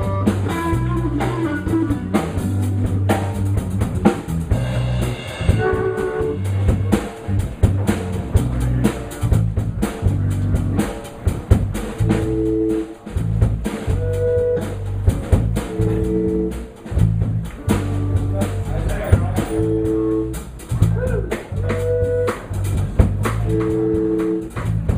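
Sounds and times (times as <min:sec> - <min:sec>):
drum kit beat: 0:00.0 - 0:24.9
live band instrumental: 0:00.0 - 0:24.9.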